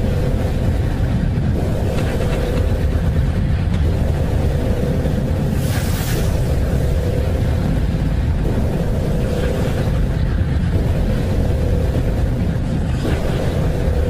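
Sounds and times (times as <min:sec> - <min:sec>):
deep rumble: 0:00.0 - 0:14.0
faint hum: 0:00.0 - 0:14.0.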